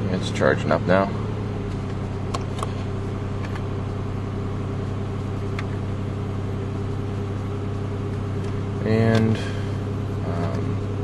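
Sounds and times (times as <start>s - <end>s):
faint engine ticks: 0.0s - 4.1s, 4.8s - 11.0s
car engine idling: 0.0s - 11.0s.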